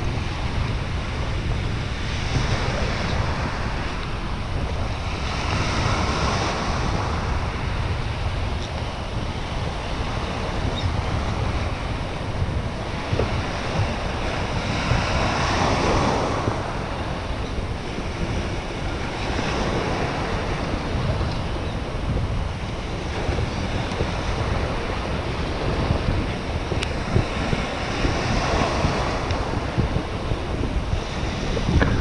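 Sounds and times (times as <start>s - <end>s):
sea waves washing in: 0.0s - 32.0s
wind buffeting microphone: 0.0s - 32.0s.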